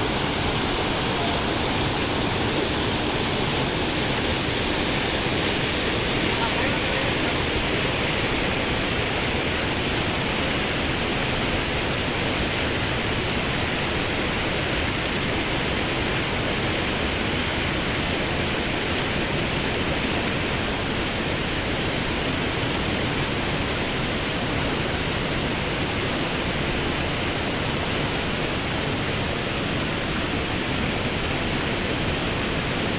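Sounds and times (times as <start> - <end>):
river rushing over rocks: 0.0 - 32.9.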